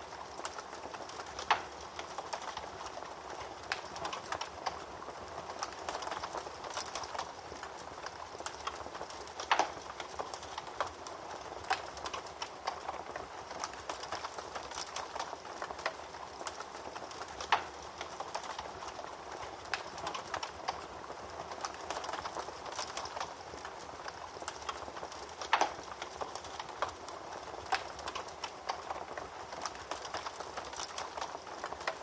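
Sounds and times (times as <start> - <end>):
fire popping: 0.0 - 32.0
wood fire crackling: 0.0 - 32.0.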